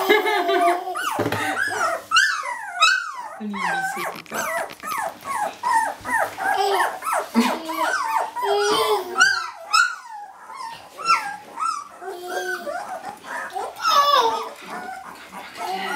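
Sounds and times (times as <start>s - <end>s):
puppies whining and yipping: 0.0s - 15.9s.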